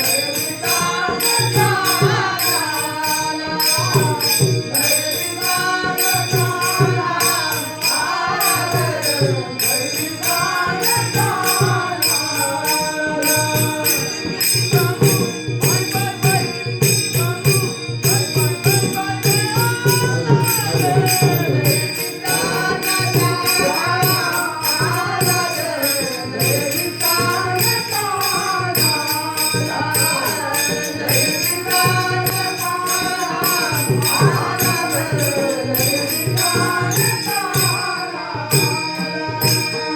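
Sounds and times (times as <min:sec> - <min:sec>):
man singing devotional melody: 0:00.0 - 0:39.9
small hand cymbals: 0:00.0 - 0:39.9.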